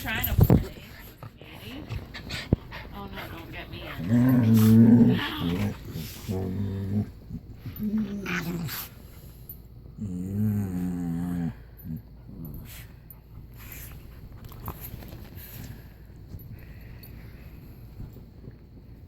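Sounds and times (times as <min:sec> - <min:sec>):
dogs play-growling: 0:00.0 - 0:18.2.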